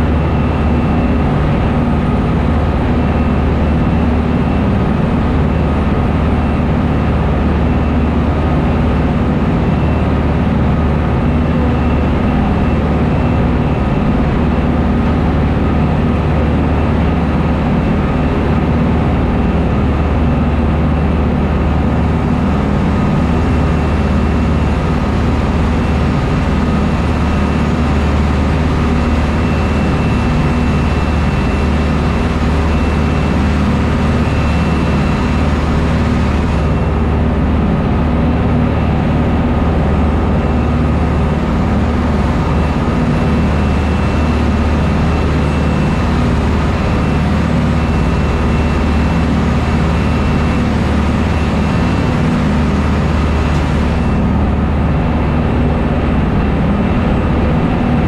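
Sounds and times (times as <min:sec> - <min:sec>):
boat engines droning: 0:00.0 - 0:58.0
wake rushing along hull: 0:00.0 - 0:58.0.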